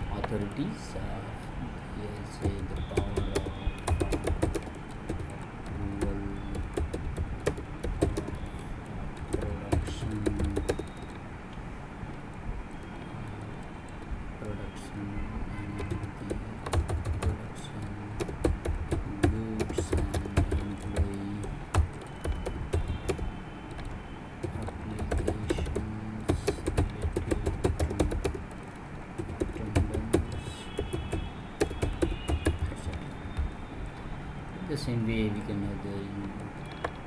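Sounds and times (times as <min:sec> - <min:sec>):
keyboard typing: 0:02.1 - 0:34.1, 0:35.0 - 0:37.0.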